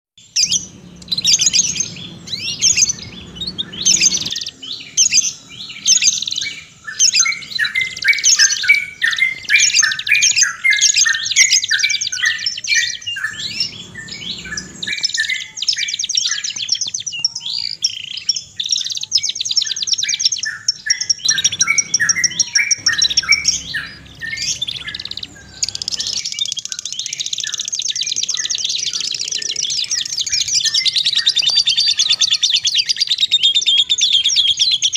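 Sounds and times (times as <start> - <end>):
songbirds singing: 0.2 - 34.9.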